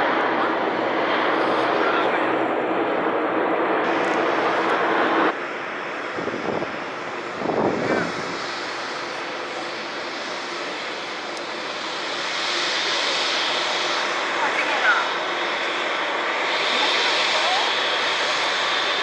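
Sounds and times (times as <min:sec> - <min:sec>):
jet engine noise: 0:00.0 - 0:19.0.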